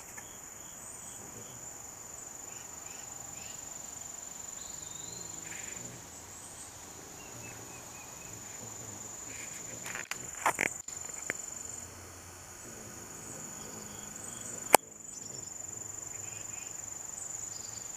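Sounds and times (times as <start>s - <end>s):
insect trill: 0.0s - 17.9s.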